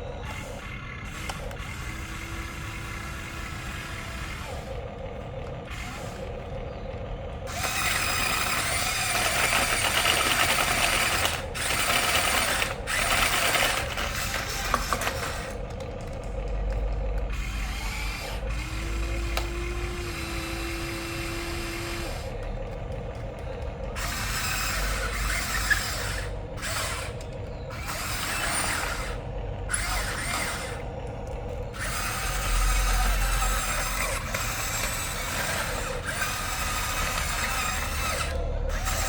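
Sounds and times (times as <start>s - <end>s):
small electric motors whirring: 0.0s - 39.0s.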